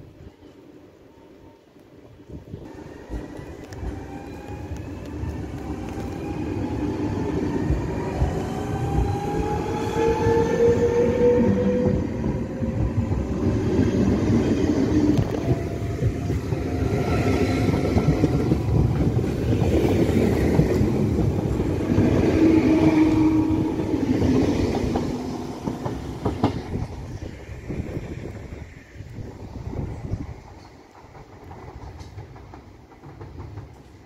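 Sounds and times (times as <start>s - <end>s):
train wheels rumbling on rails: 2.4s - 34.0s.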